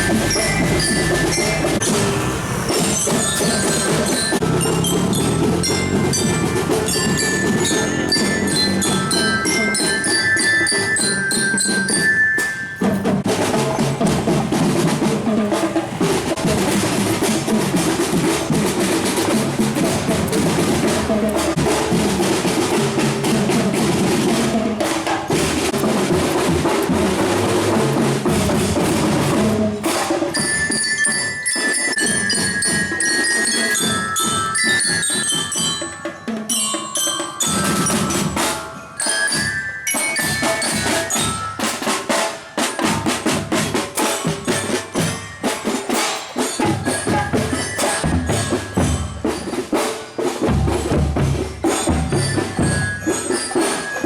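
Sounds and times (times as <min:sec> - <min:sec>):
glockenspiel melody: 0:00.0 - 0:54.0
snare and bass drums: 0:00.0 - 0:54.0.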